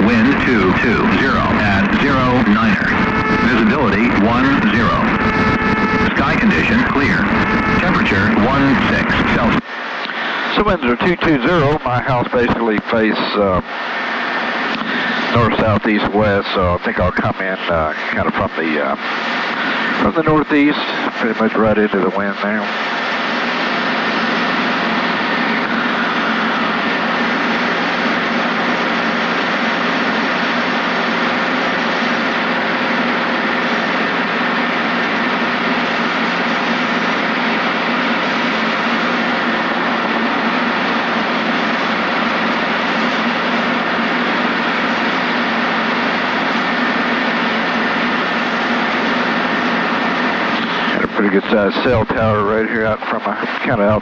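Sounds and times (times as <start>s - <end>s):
helicopter cabin noise: 0.0s - 54.0s.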